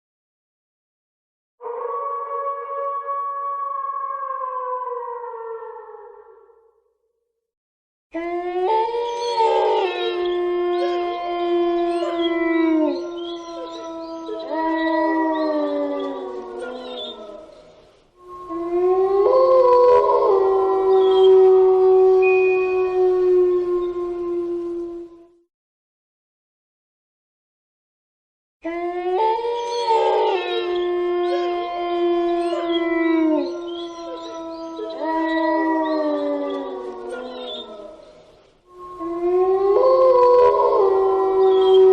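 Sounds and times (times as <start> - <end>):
pack of canines howling: 1.6 - 6.5, 8.2 - 25.3, 28.7 - 41.9.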